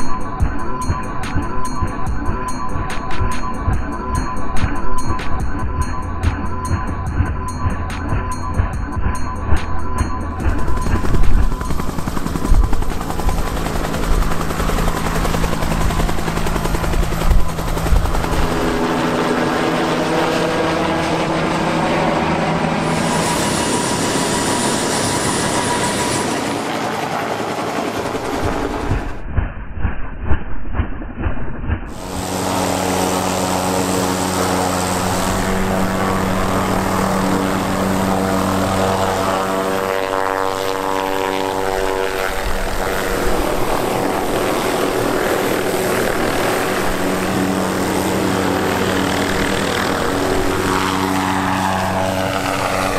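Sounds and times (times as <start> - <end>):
helicopter rotors beating: 0.0 - 52.9
turbine engine noise: 0.0 - 52.9.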